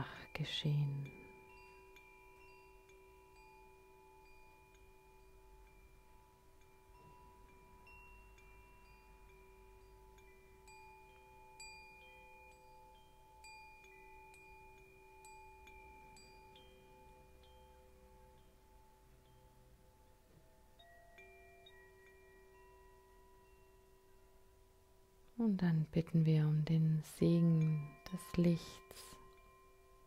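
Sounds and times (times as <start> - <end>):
chime-like background music: 0.0 - 25.2, 26.1 - 30.0.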